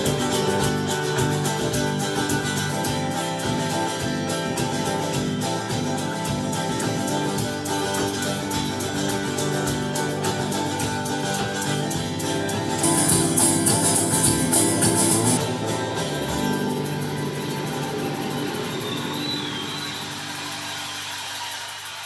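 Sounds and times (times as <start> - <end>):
strummed acoustic guitar: 0.0 - 19.4.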